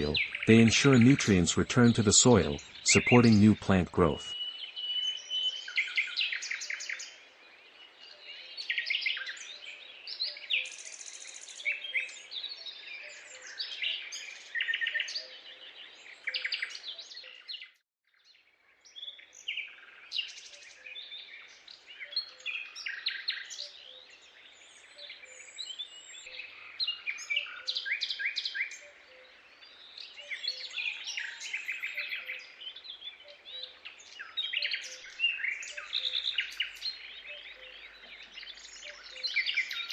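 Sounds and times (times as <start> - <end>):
many birds chirping and trilling: 0.0 - 17.7, 18.3 - 39.9.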